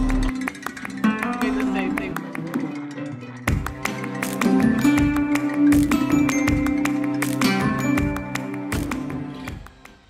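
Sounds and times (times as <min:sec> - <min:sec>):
plucked guitar music: 0:00.0 - 0:09.7.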